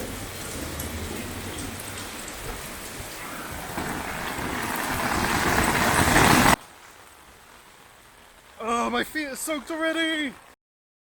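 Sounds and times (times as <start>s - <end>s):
heavy wind-driven rain: 0.0s - 10.6s.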